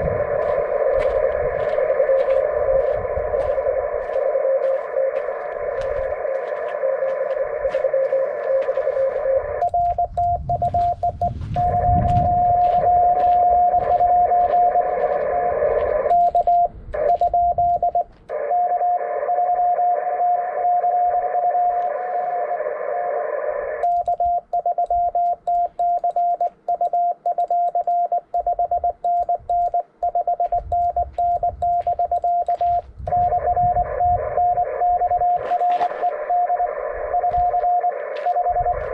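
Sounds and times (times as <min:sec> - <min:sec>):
morse code tones: 0:00.0 - 0:22.6, 0:23.7 - 0:38.9
radio band noise hiss: 0:00.0 - 0:24.4, 0:31.8 - 0:38.9.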